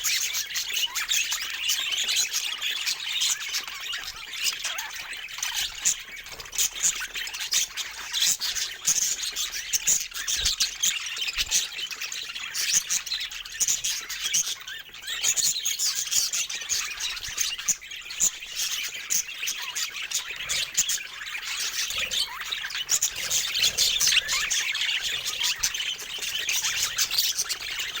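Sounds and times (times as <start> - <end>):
budgerigars chirping and chattering: 0.0 - 28.0
bird squawks: 2.5 - 28.0.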